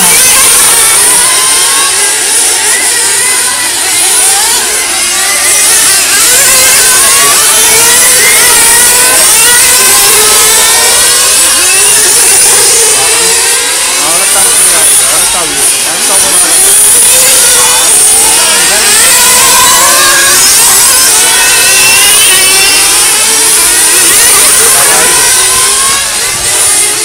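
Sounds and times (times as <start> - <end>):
rc car engines whining: 0.0 - 27.0.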